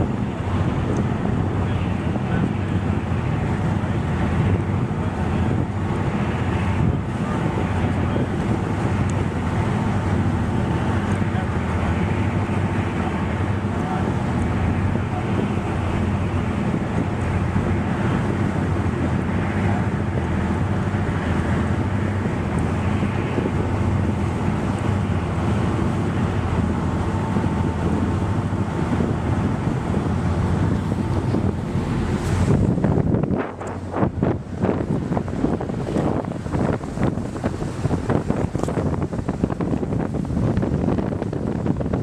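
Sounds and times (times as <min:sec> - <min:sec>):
low rumble: 0:00.0 - 0:42.0
wind across microphone: 0:00.0 - 0:42.0.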